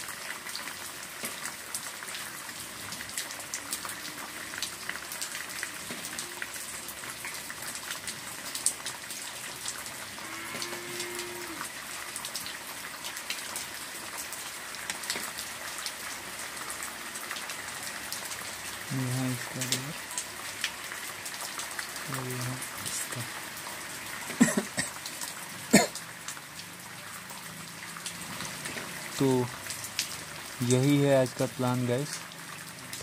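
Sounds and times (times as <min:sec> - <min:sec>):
rain-like hiss with ticks: 0:00.0 - 0:33.0.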